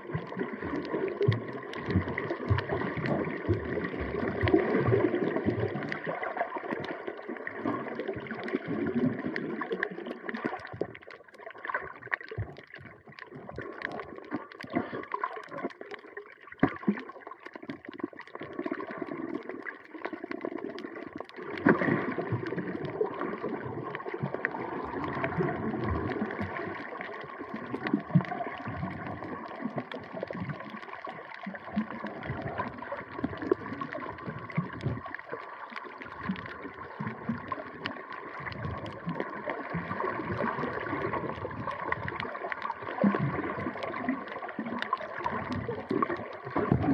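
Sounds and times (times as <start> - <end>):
small clicks and crackles: 0.0 - 46.9
underwater gurgling and sloshing: 0.0 - 46.9.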